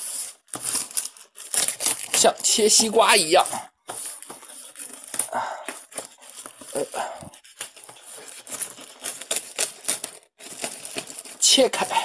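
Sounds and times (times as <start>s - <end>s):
plastic wrap crinkling and tearing: 0.0s - 12.0s.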